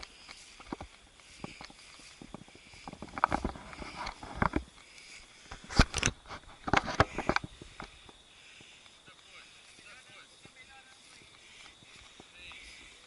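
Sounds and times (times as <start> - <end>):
footsteps on dirt trail: 0.0 - 13.0
grass rustling: 0.0 - 13.0.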